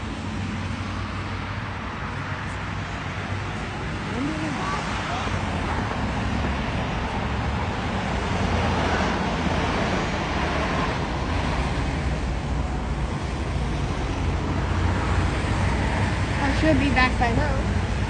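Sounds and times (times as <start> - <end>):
traffic engines and tyres rumbling: 0.0 - 18.0.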